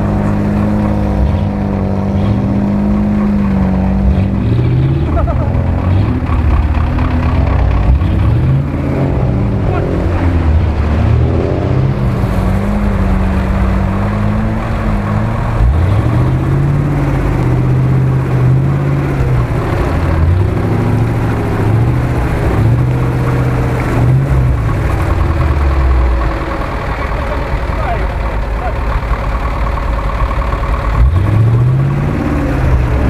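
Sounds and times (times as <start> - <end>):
off-road truck engines revving: 0.0 - 33.0
tyres churning through mud: 0.0 - 33.0.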